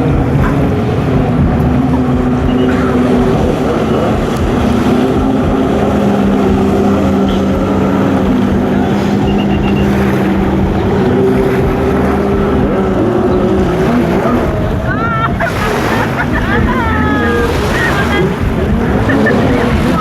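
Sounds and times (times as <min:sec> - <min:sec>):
jet ski engines droning: 0:00.0 - 0:20.0.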